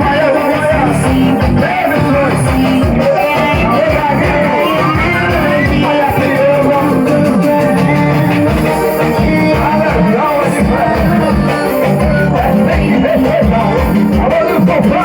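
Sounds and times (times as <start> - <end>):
guitar: 0.0 - 15.0
person singing: 0.0 - 15.0.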